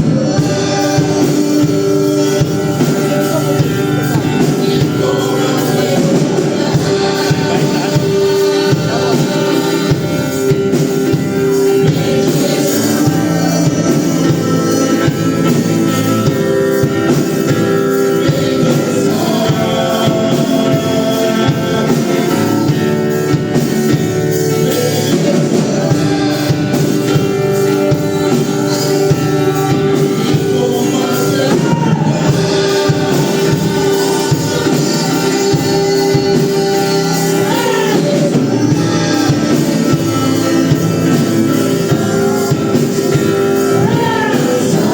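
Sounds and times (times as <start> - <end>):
band with guitar playing: 0.0 - 44.9
singing: 0.0 - 44.9.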